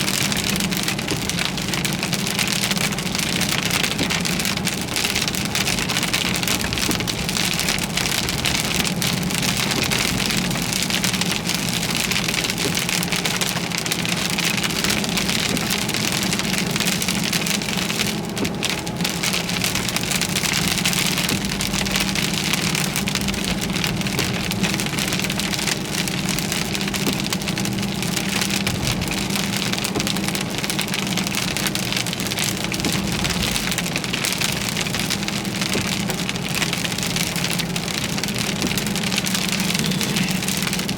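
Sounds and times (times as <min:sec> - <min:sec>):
car engine drone: 0:00.0 - 0:40.9
heavy rain on car: 0:00.0 - 0:40.9.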